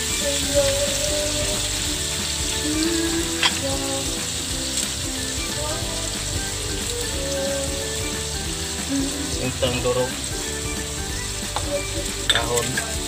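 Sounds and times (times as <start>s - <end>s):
meat sizzling in a wok: 0.0s - 13.0s.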